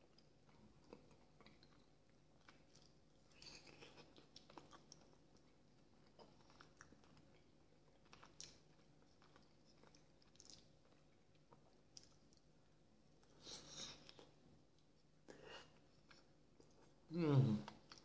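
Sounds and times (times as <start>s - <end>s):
close-up chewing: 0.0s - 18.0s.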